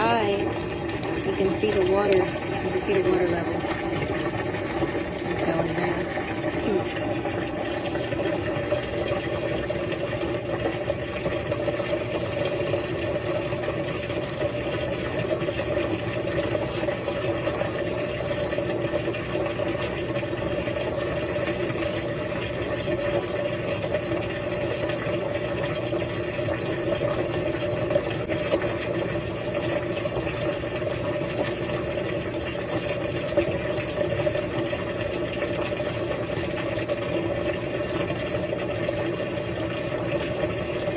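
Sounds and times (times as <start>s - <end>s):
washing machine pump humming: 0.0s - 40.9s.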